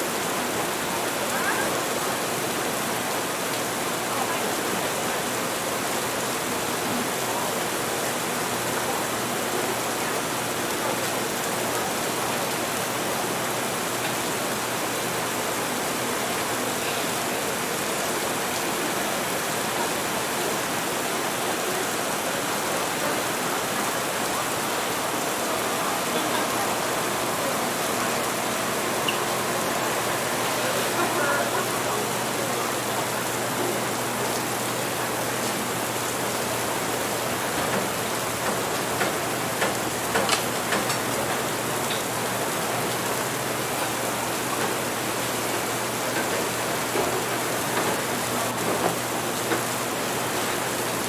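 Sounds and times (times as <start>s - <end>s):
murmur of cafe chatter: 0.0s - 51.0s
steady rain: 0.0s - 51.0s.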